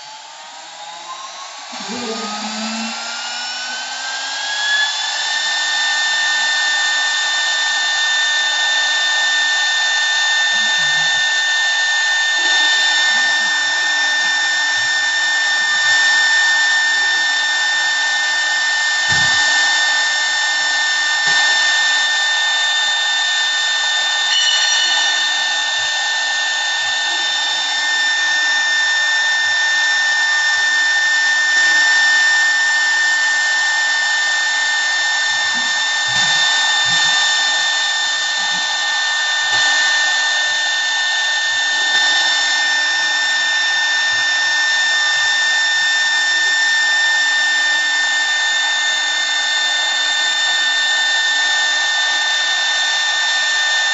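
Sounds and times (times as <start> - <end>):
lathe motor whine: 0.0 - 53.9.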